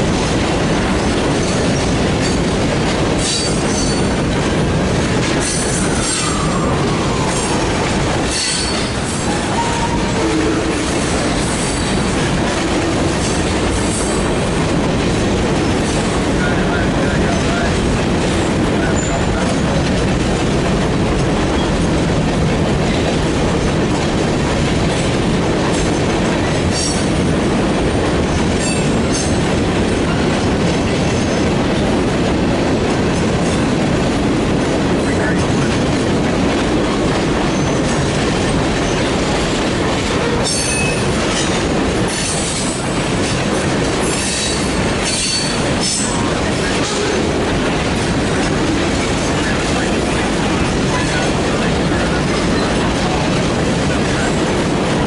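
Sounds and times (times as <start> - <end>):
freight train cars rumbling: 0.0 - 55.0.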